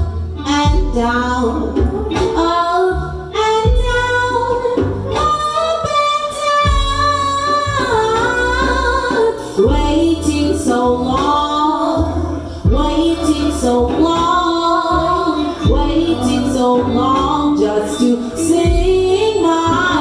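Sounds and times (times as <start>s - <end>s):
live band accompaniment: 0.0s - 20.0s
sustained bass line: 0.0s - 20.0s.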